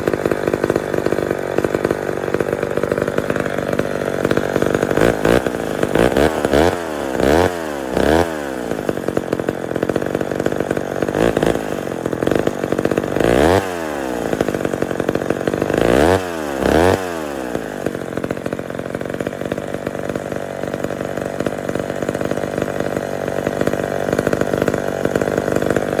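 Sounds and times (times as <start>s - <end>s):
chainsaw revving and idling: 0.0s - 26.0s.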